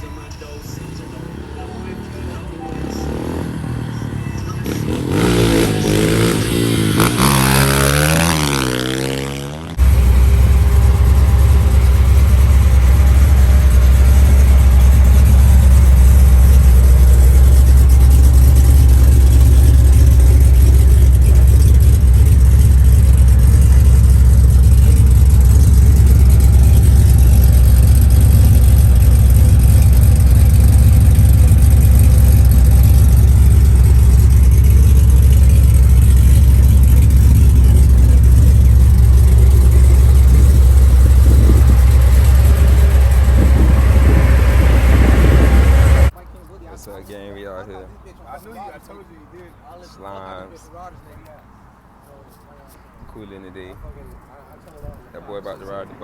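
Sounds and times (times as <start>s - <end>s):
vehicle engine revving: 0.7s - 46.2s.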